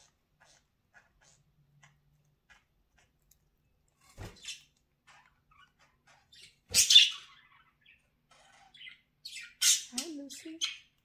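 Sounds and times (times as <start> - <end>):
budgerigars chirping: 0.0 - 3.2, 4.2 - 11.0.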